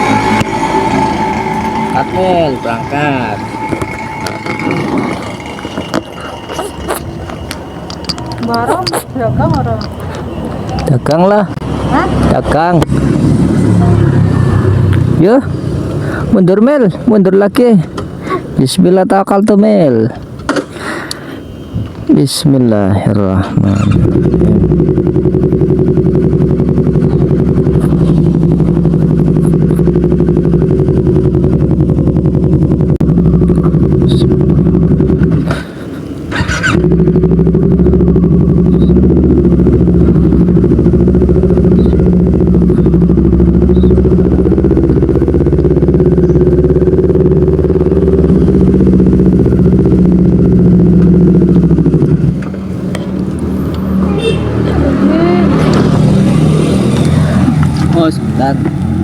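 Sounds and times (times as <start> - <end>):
motorcycle engine running: 0.0 - 20.4, 21.2 - 59.0.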